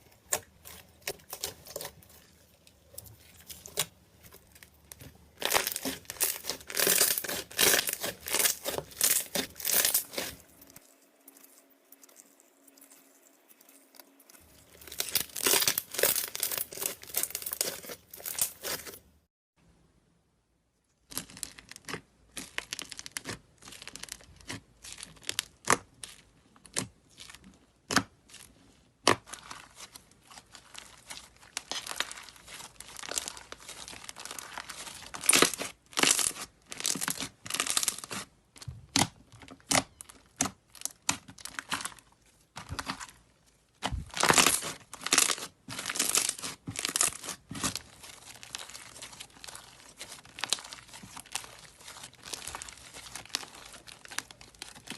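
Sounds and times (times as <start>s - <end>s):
slime crackling and popping: 0.0s - 19.0s, 21.1s - 54.9s.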